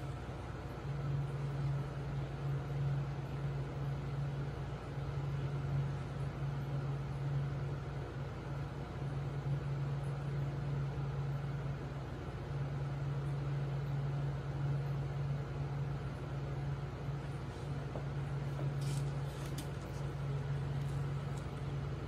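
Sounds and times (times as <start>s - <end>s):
low equipment hum: 0.0s - 22.0s.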